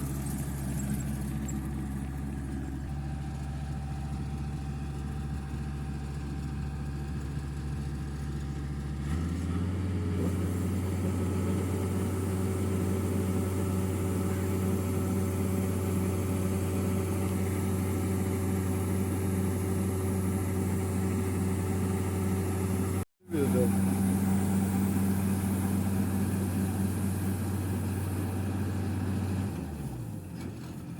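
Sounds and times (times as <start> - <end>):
harvester engine running: 0.0 - 30.9.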